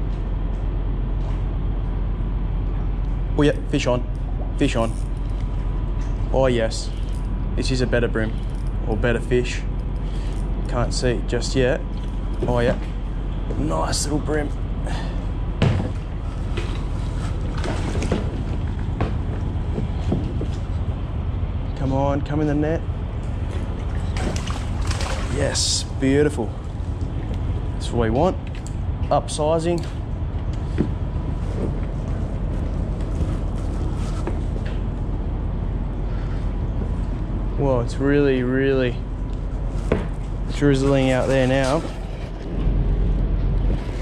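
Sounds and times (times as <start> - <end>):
low rumble of background noise: 0.0 - 44.0.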